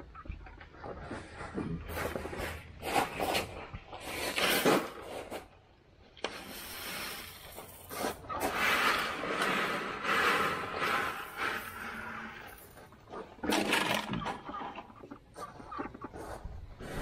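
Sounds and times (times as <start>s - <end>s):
gravel rattling in plastic bucket: 0.8s - 5.5s, 6.3s - 17.0s.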